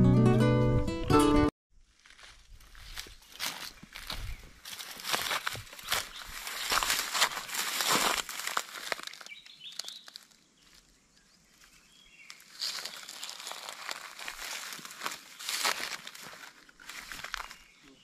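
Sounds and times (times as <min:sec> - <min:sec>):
footsteps crunching through dry grass: 0:01.8 - 0:18.0.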